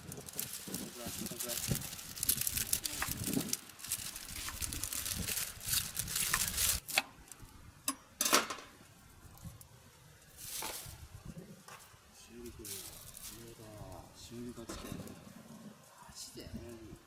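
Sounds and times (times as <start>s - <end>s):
rustling and light clattering: 0.0s - 7.4s, 8.2s - 17.0s.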